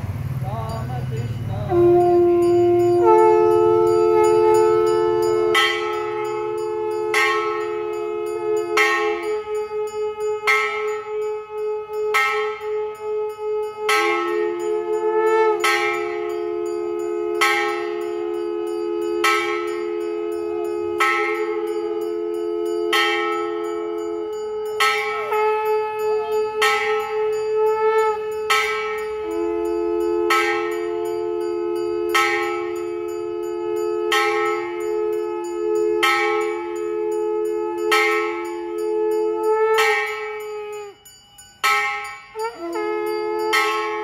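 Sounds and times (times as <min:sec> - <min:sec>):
steady held tones: 0:00.0 - 0:44.0
temple bell ringing: 0:00.0 - 0:44.0.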